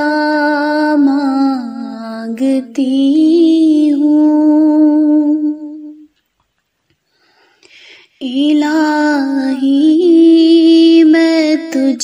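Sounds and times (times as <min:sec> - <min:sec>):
woman singing unaccompanied: 0:00.0 - 0:06.2, 0:08.2 - 0:12.0.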